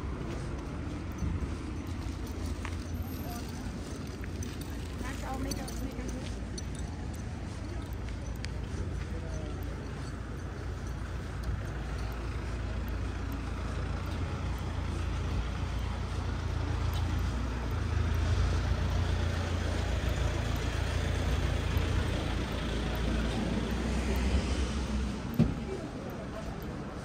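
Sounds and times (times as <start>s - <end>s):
heavy road vehicle engine: 0.0s - 27.0s.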